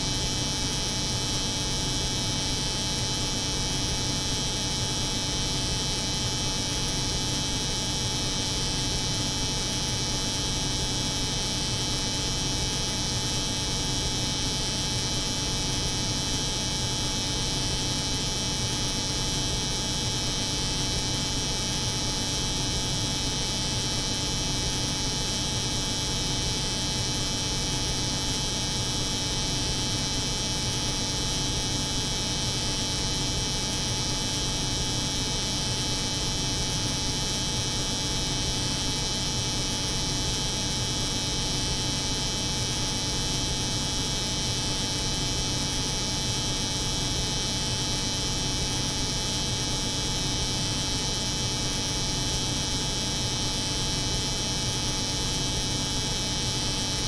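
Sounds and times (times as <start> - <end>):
refrigeration unit drone: 0.0 - 57.0.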